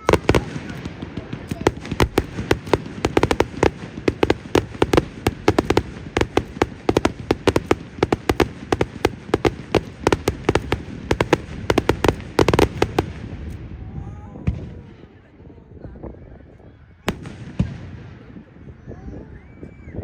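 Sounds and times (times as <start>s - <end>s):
firework bangs and crackles: 0.0s - 15.0s, 17.0s - 18.8s.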